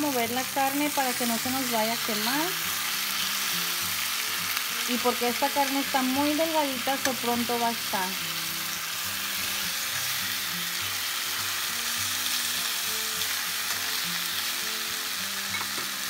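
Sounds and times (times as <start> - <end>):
faint background music: 0.0 - 16.0
meat and onions sizzling in a pan: 0.0 - 16.0.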